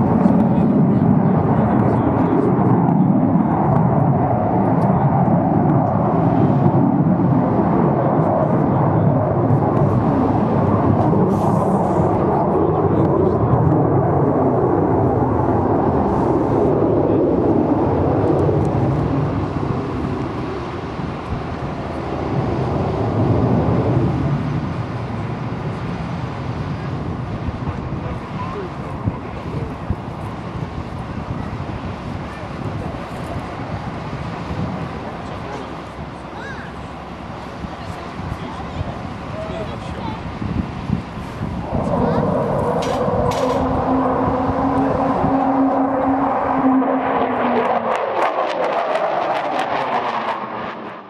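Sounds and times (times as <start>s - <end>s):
jet aircraft rumble: 0.0s - 51.0s.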